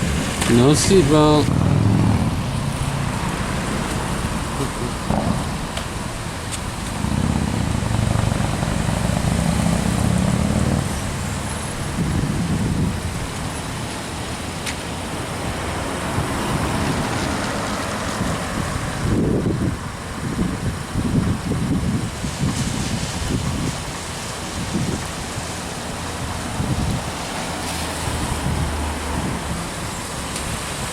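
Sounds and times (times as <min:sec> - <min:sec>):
cars driving past: 0:00.0 - 0:21.6, 0:22.2 - 0:30.9.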